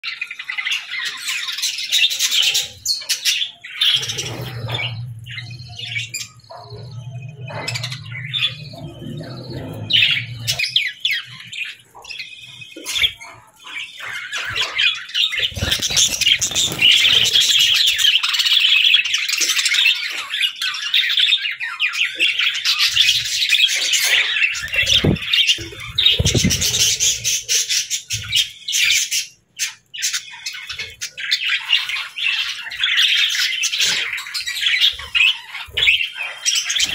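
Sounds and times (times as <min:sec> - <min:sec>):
parakeets chirping and squawking: 0:00.0 - 0:36.9.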